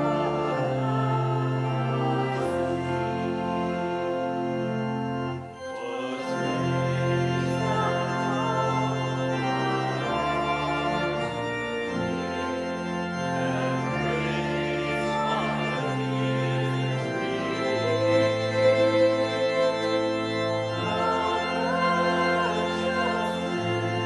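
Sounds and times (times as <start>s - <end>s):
church organ chords: 0.0s - 24.0s.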